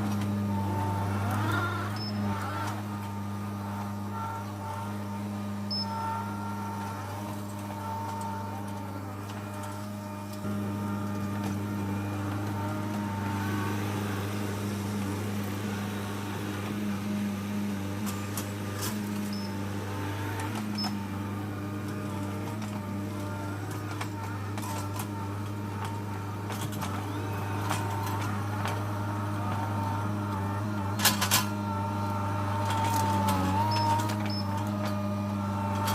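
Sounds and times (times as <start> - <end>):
skid steer engine droning: 0.0 - 35.9.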